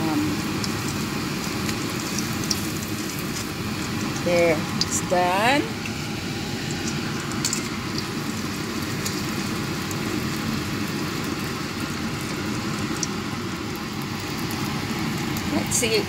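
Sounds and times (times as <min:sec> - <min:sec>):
fritter sizzling in hot oil: 0:00.0 - 0:16.0.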